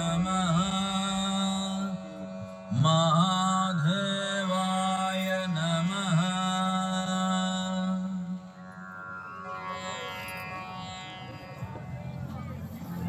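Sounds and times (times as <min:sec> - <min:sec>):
voice chanting mantra over music: 0:00.0 - 0:13.0.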